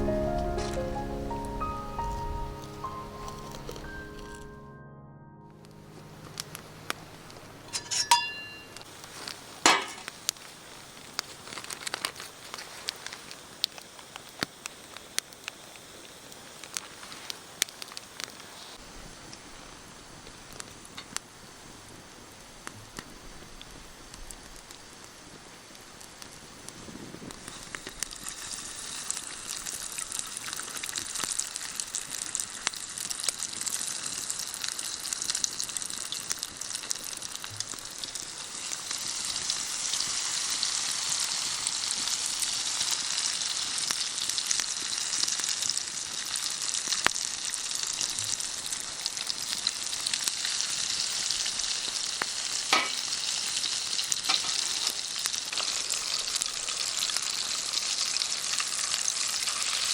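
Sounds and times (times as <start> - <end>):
chicken deep-frying in oil: 6.3 - 59.9.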